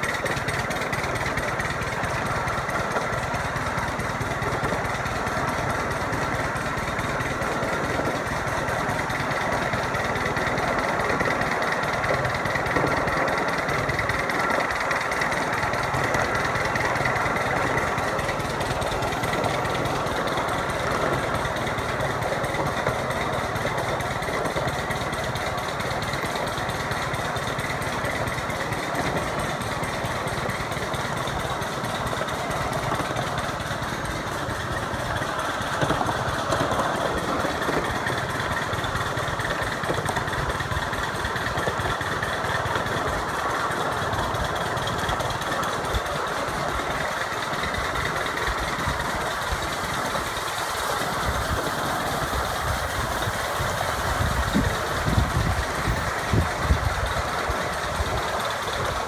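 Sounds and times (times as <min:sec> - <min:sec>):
miniature train rattle and drone: 0:00.0 - 0:59.0.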